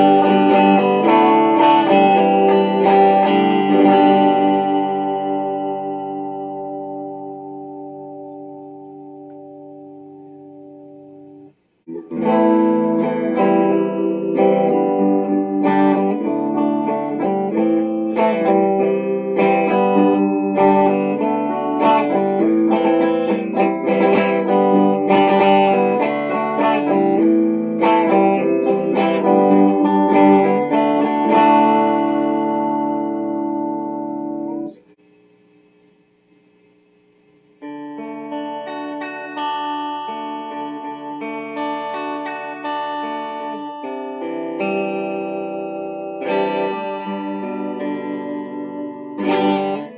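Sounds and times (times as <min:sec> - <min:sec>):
electric guitar playing: 0:00.0 - 0:35.0, 0:37.3 - 0:49.9.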